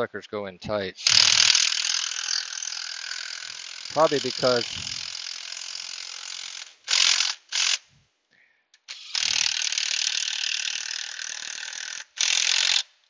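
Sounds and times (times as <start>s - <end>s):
power ratchet whirring: 1.0s - 7.9s, 8.9s - 13.0s.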